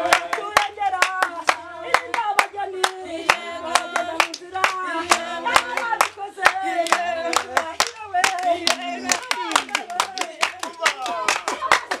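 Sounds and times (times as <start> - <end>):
hands clapping rhythmically: 0.0 - 12.0
women singing together: 0.0 - 12.0.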